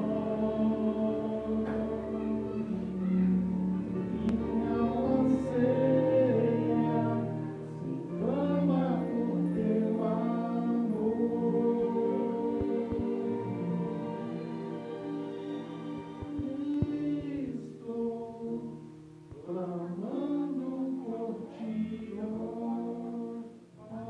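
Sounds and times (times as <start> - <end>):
group singing in harmony: 0.0 - 24.0.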